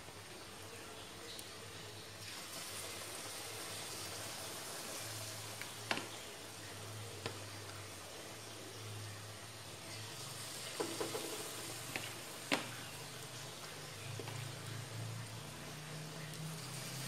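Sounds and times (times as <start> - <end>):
frying in hot oil: 0.0 - 17.0.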